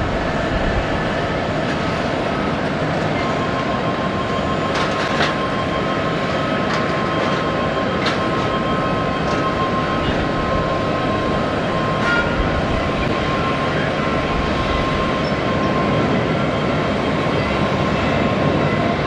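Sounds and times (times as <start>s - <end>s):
jet engine roar at takeoff: 0.0s - 19.0s.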